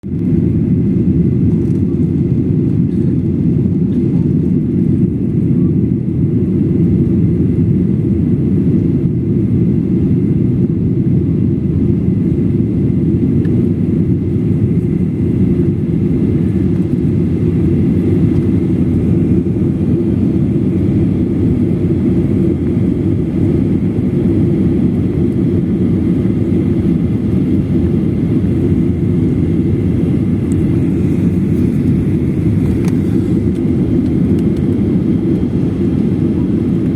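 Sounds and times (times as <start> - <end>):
airliner engine and airflow rumble: 0.0 - 36.9.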